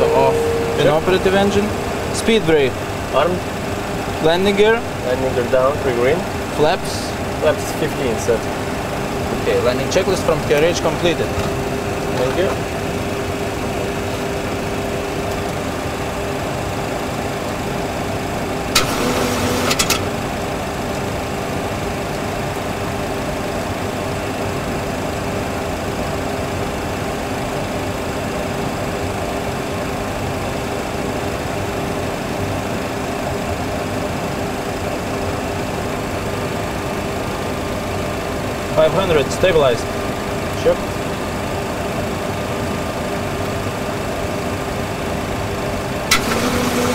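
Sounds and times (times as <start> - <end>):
simulated engine and airflow noise: 0.0 - 46.9.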